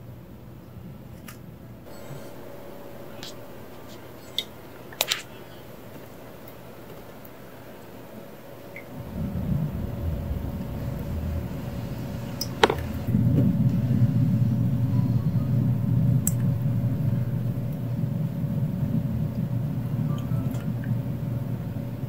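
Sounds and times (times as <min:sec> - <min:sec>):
faint pump hum: 0:00.0 - 0:22.0.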